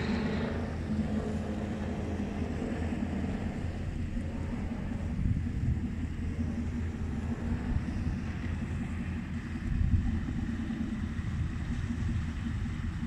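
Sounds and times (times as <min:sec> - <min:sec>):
motorboat engine drone: 0:00.0 - 0:13.0
wind buffeting microphone: 0:00.0 - 0:13.0.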